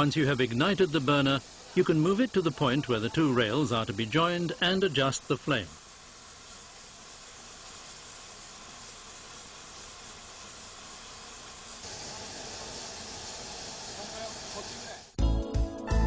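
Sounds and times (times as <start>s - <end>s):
welding burner flame hissing: 0.0s - 15.2s.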